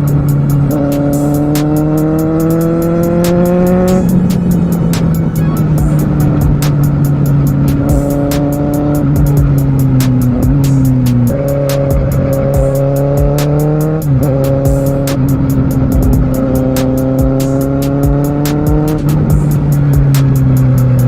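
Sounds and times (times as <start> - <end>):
motorcycle engine accelerating: 0.0 - 21.0
music with steady beat: 0.0 - 21.0.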